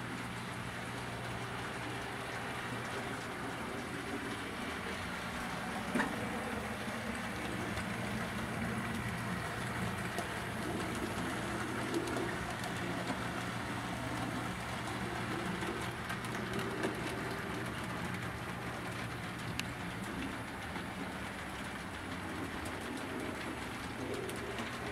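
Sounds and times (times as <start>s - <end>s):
model train rattling on rails: 1.0s - 24.9s.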